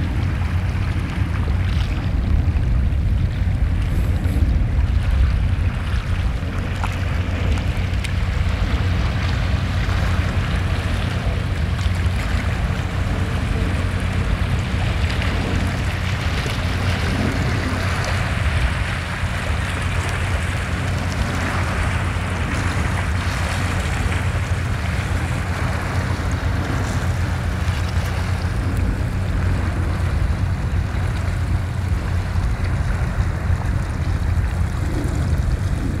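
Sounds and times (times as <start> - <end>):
waves washing on rocky shore: 0.0 - 36.0
wind buffeting microphone: 0.0 - 36.0.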